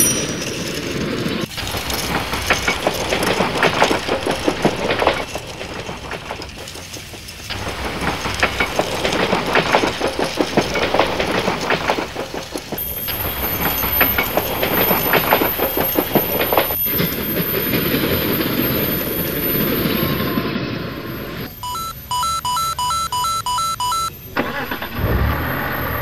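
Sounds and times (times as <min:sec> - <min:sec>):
train wheels clicking on rails: 0:00.0 - 0:26.0.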